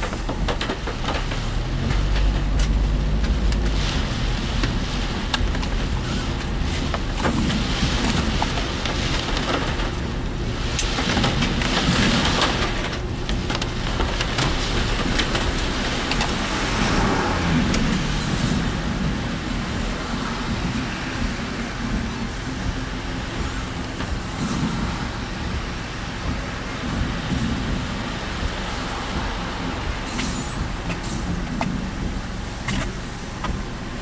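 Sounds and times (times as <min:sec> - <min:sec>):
low engine hum: 0:00.0 - 0:34.0
raindrops ticking: 0:00.0 - 0:34.0
steady rain: 0:00.0 - 0:34.0
tyres on wet road: 0:00.0 - 0:34.0.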